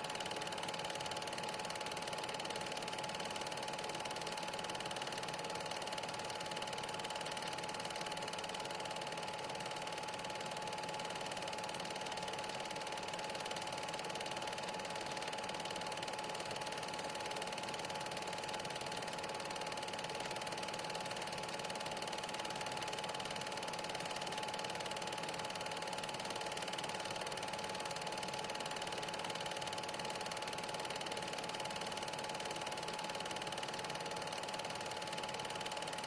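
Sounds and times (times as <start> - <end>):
film projector whirring: 0.0 - 36.0.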